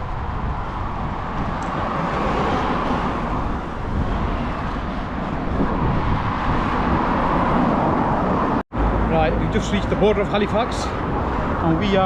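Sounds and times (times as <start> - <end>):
rushing road and wind noise: 0.0 - 12.0
traffic noise: 0.0 - 12.0.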